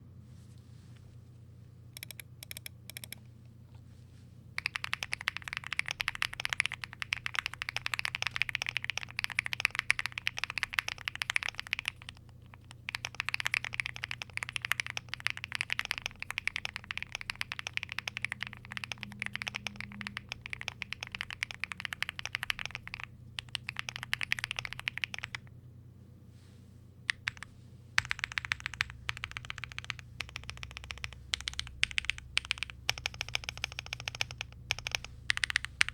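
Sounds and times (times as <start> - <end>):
mechanical keyboard typing: 2.0 - 3.2, 4.6 - 25.5, 27.1 - 35.9.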